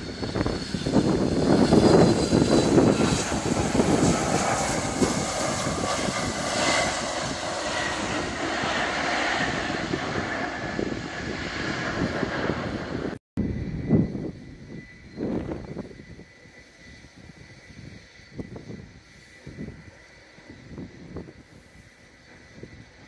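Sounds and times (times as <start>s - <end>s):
high engine whine: 0.0s - 23.0s
jet engines roaring: 0.0s - 23.0s.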